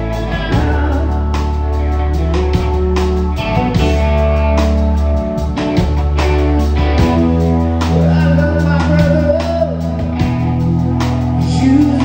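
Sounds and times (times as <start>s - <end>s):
electric guitar melody: 0.0s - 12.0s
live band playing rock ballad: 0.0s - 12.0s.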